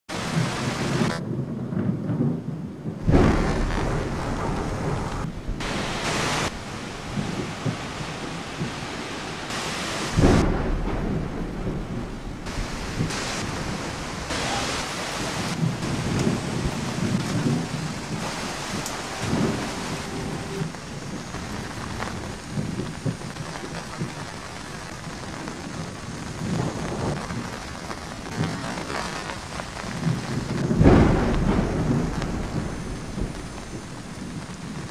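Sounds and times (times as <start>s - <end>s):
steady rain hiss: 0.1s - 34.9s
thunderclaps rumbling: 0.1s - 34.9s.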